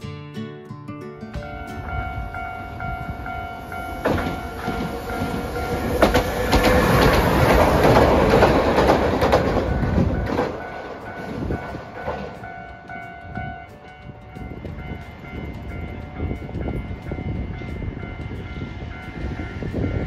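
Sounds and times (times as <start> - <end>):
tram wheels clacking on rail joints: 1.4 - 20.0.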